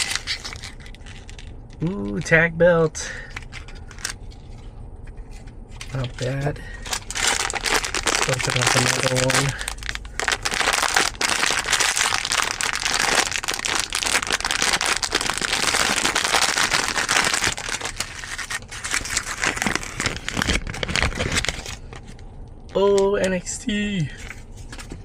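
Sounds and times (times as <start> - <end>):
plastic wrapper crinkling: 0.0 - 2.3, 5.2 - 23.1.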